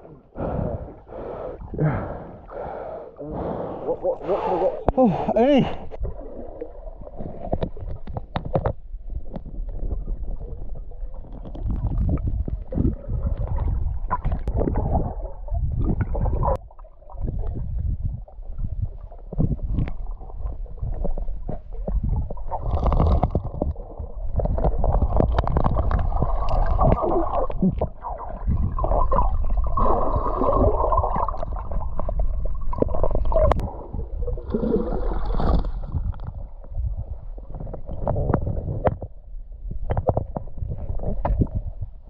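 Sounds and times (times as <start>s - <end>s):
muffled underwater river rumbling: 0.0s - 42.0s.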